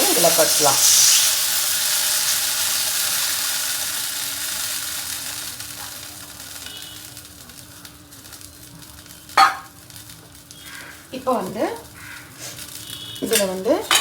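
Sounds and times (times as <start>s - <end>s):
liquid sizzling in a hot pan: 0.0s - 14.0s.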